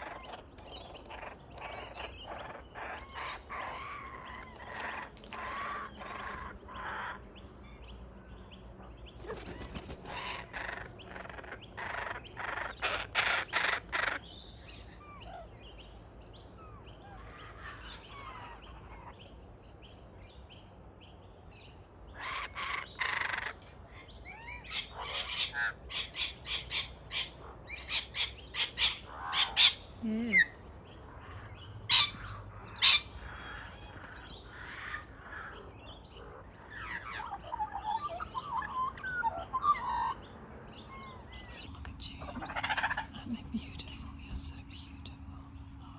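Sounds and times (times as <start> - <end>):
birds calling harsh notes: 0.0 - 19.6, 21.4 - 45.9.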